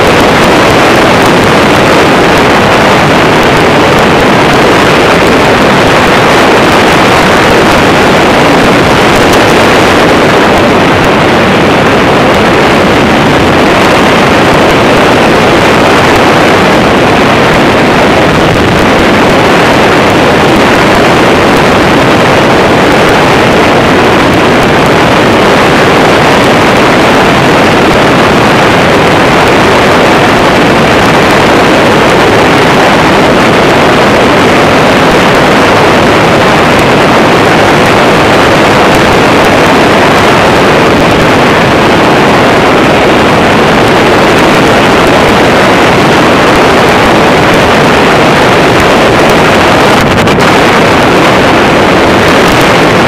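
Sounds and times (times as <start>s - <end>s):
engine and propeller running: 0.0s - 53.0s
wind rushing over microphone: 0.0s - 53.0s.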